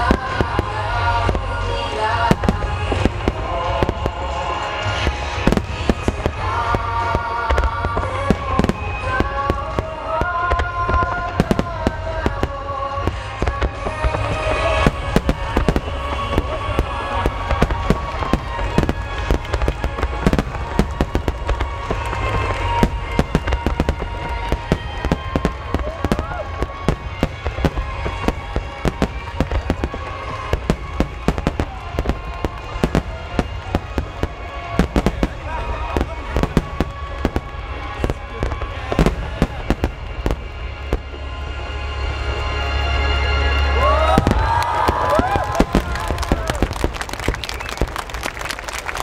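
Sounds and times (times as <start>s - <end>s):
fireworks cracking and booming: 0.0s - 41.6s, 43.8s - 49.0s
music with long held notes: 0.0s - 49.0s.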